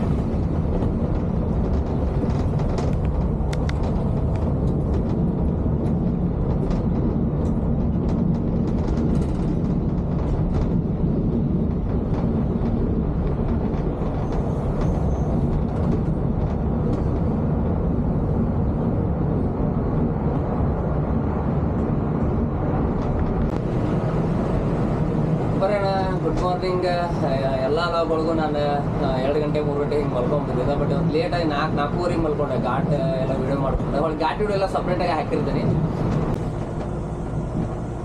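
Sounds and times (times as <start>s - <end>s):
bus engine and tyre drone: 0.0s - 38.0s.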